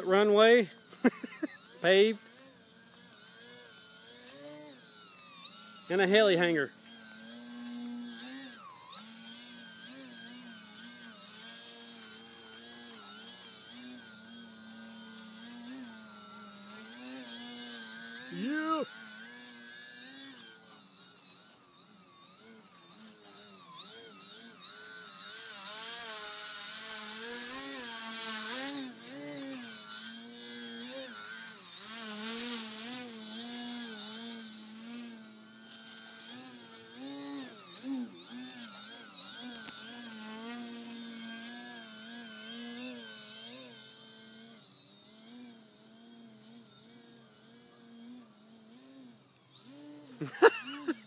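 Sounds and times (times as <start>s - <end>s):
model airplane motor whining: 0.0s - 51.0s.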